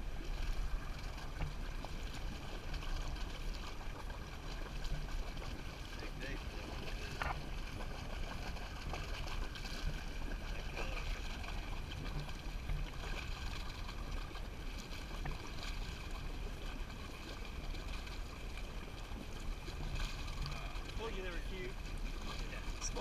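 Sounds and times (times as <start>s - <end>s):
low boat rumble: 0.0s - 23.0s
water washing along hull: 0.0s - 23.0s.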